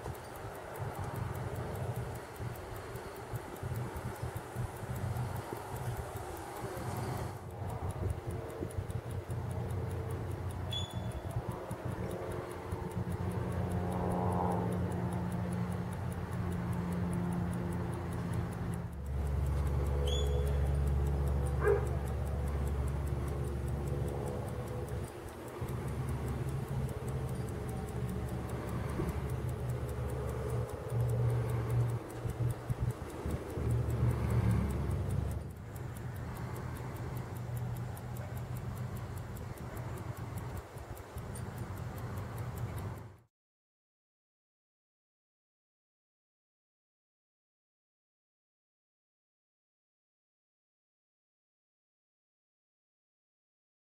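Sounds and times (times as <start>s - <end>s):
pocket watch ticking: 0.0s - 43.3s.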